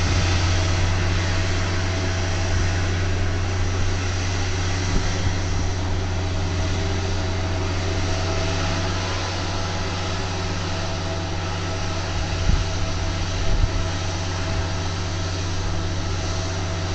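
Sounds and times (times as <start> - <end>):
rotary snow blower engine droning: 0.0 - 16.9.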